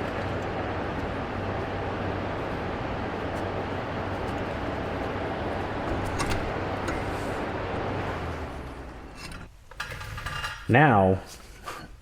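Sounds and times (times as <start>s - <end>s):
oil heater burner and blower: 0.0s - 12.0s.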